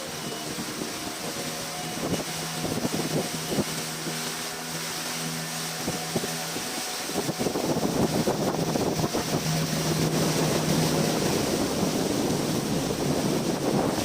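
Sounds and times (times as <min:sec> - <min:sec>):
boat motor humming: 0:00.0 - 0:14.0
rushing water: 0:00.0 - 0:14.0
wind buffeting microphone: 0:00.0 - 0:14.0.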